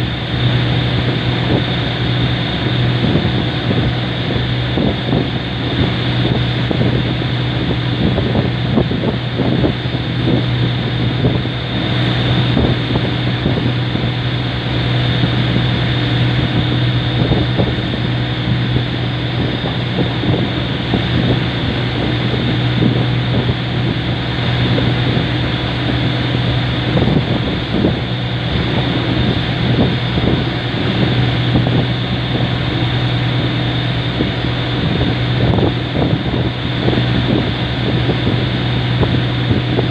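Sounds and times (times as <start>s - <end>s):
boat engine droning: 0.0s - 39.9s
wind buffeting microphone: 0.0s - 39.9s.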